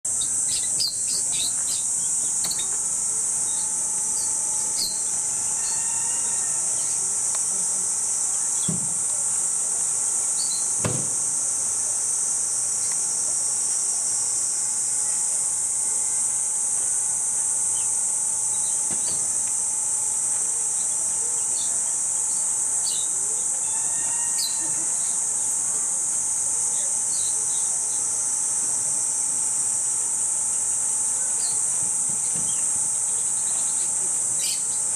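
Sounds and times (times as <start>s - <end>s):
cicadas shrilling: 0.0s - 34.9s.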